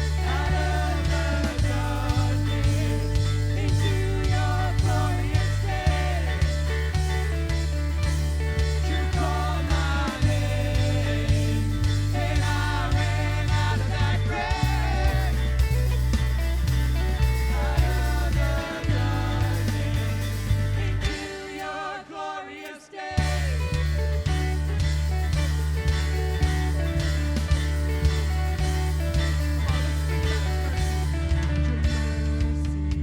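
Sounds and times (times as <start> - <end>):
worship music with singing: 0.0 - 32.9.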